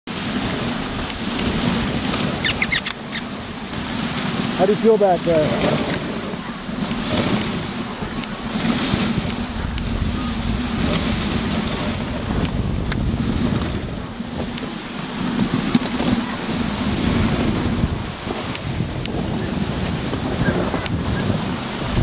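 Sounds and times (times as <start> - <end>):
sled runners hissing on snow: 0.1 - 22.0
wind buffeting microphone: 0.1 - 22.0.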